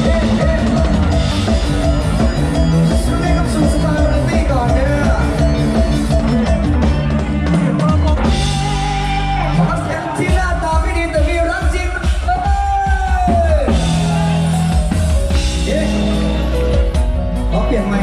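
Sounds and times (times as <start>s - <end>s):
drum kit beat: 0.0s - 18.0s
live band instrumental: 0.0s - 18.0s.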